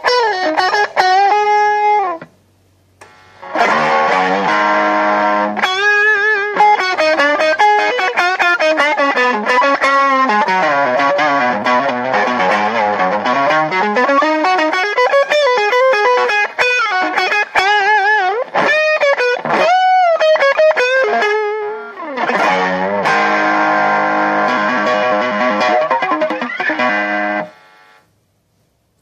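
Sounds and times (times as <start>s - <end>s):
electric guitar lead playing: 0.0s - 2.3s, 3.0s - 28.0s
held guitar chord ringing: 3.3s - 28.0s.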